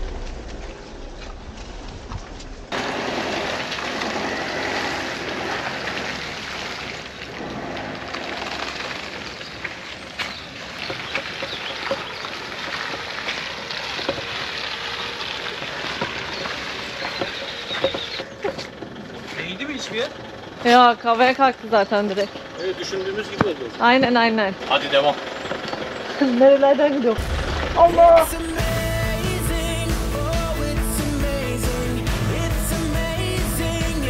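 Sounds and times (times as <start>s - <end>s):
vehicle driving over rough ground: 0.0s - 30.7s.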